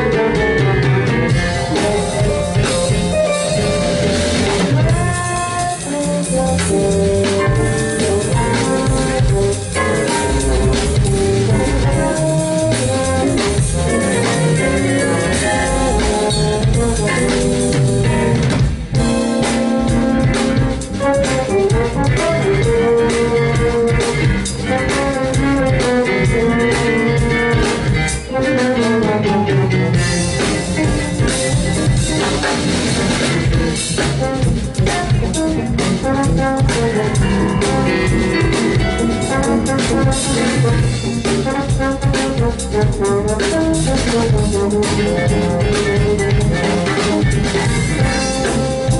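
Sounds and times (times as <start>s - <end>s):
jazz band playing: 0.0s - 48.9s.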